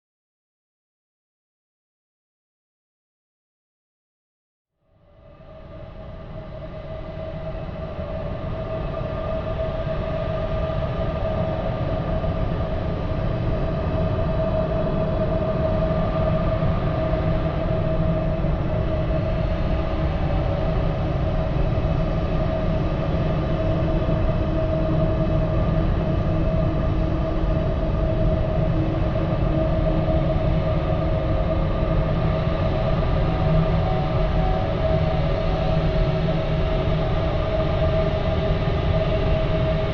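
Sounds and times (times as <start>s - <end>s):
deep rumbling ambient drone: 5.0s - 39.9s.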